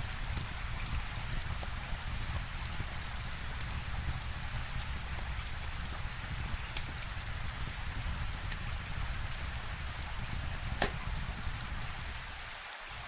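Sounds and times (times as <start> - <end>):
rain falling: 0.0 - 13.0
wood fire crackling: 0.0 - 13.0.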